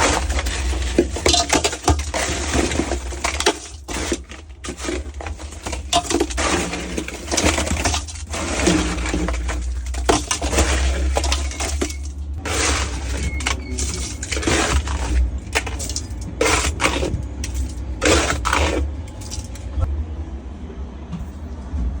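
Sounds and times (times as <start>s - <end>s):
hard objects clattering and clinking: 0.0s - 19.9s.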